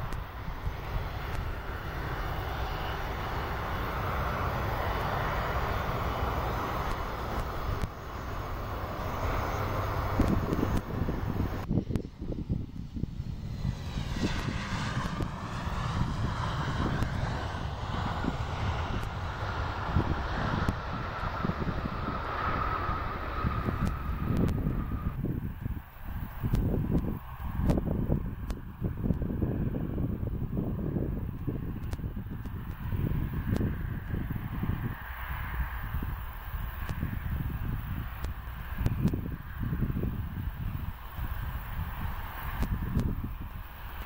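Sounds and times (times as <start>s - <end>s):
jet engines roaring: 0.0s - 44.0s
wind rumbling on microphone: 0.0s - 44.0s.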